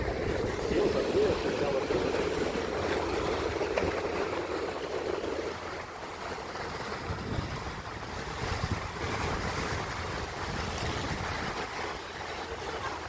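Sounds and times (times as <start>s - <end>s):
wind on microphone: 0.0s - 11.9s
ocean surf washing ashore: 0.0s - 13.0s.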